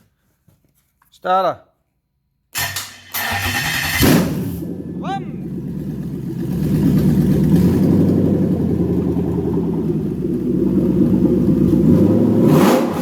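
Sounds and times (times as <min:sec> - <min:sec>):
engine revving after starting: 0:02.6 - 0:13.0.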